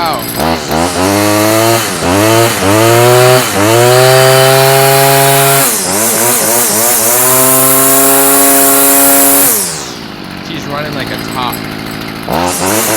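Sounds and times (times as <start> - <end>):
string trimmer engine revving: 0.0 - 12.9.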